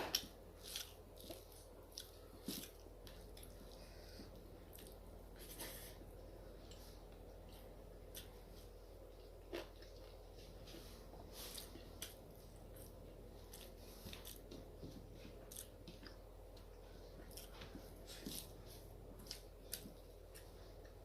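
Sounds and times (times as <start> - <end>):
faint steady hum: 0.0 - 21.0
person chewing food: 0.0 - 21.0.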